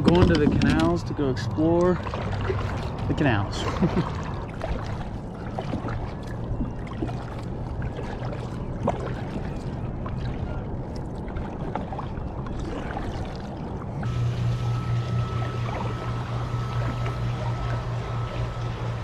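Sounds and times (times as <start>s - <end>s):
steady low hum: 0.0s - 19.0s
water splashing around kayak: 0.0s - 19.0s.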